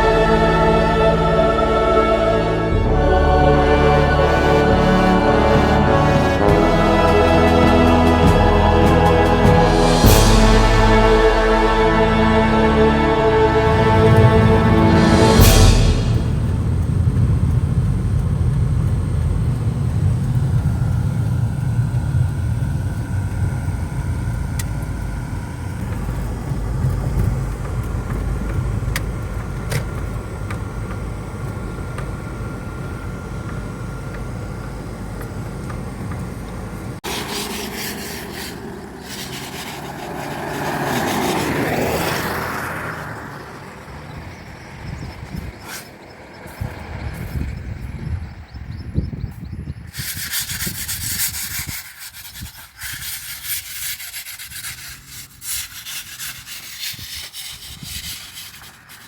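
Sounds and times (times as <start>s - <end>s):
vehicle passing: 0.0s - 48.7s
car road and engine rumble: 0.0s - 51.3s.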